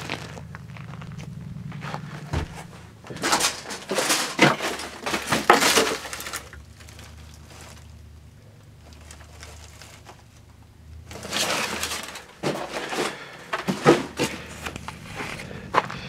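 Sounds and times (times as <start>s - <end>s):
footsteps crunching over debris: 0.0s - 16.0s.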